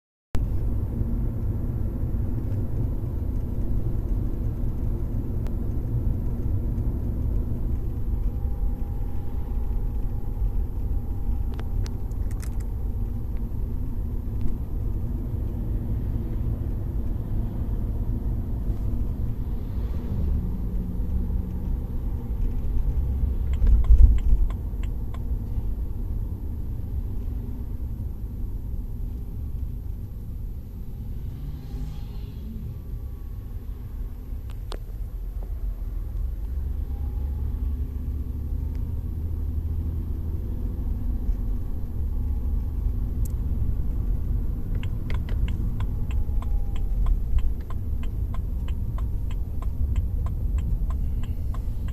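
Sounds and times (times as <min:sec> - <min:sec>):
car cabin rumble while driving: 0:00.4 - 0:51.9.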